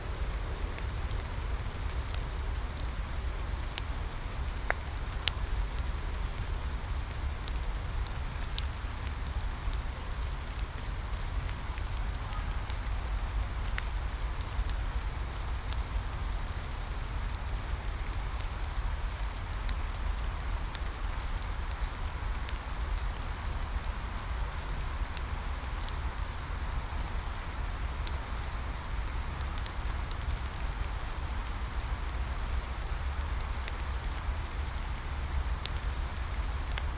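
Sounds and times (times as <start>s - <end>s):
bonfire crackling and popping: 0.0s - 36.9s
steady rain falling: 0.0s - 36.9s.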